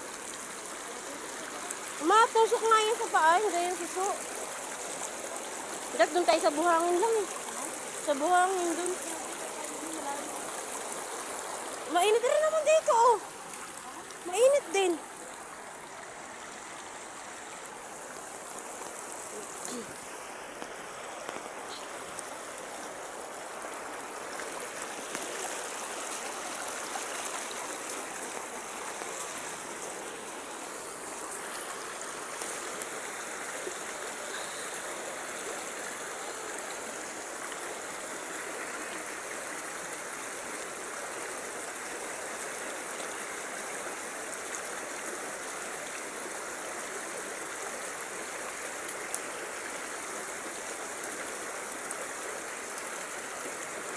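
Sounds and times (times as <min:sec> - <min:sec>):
stream water flowing: 0:00.0 - 0:53.9.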